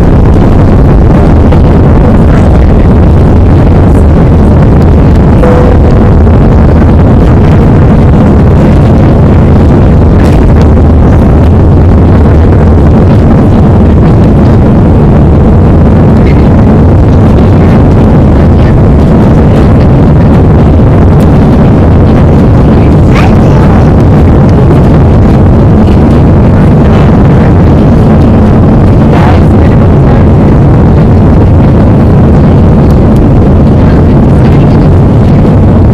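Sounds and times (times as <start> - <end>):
jet engines from inside cabin: 0.0 - 35.9.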